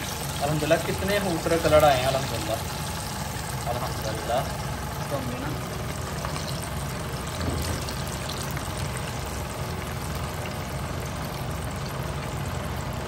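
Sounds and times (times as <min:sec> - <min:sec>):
hot oil sizzling and bubbling: 0:00.0 - 0:13.0
steady low hum: 0:00.0 - 0:13.0.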